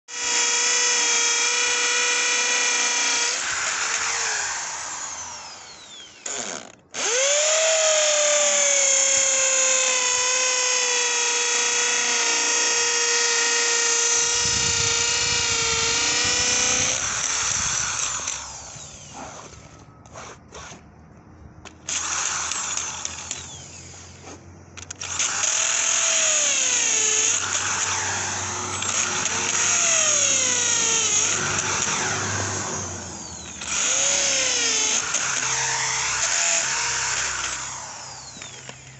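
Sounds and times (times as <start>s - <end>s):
electric drill boring into concrete: 0.1s - 20.8s, 21.7s - 24.2s, 24.8s - 38.9s.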